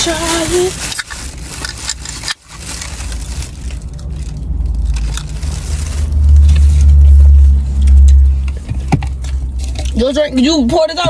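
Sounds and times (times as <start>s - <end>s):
paper wrapper crinkling: 0.0s - 10.1s
heavy low rumble: 0.0s - 11.0s.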